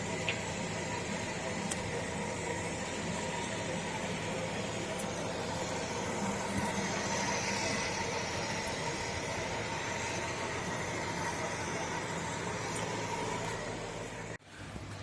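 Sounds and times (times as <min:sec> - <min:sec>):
distant road traffic hum: 0:00.0 - 0:15.0.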